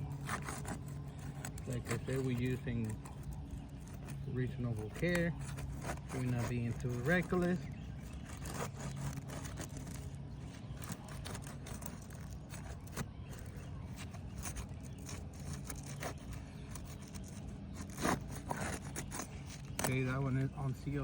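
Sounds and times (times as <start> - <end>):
tool scraping under roof shingle: 0.0 - 21.0.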